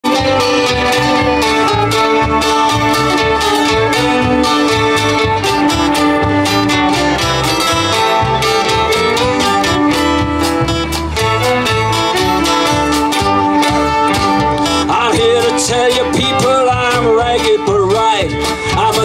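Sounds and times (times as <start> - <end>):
bass guitar pulsing: 0.0 - 19.0
fiddle: 0.0 - 19.0
plucked cuatro and mandolin: 0.0 - 19.0.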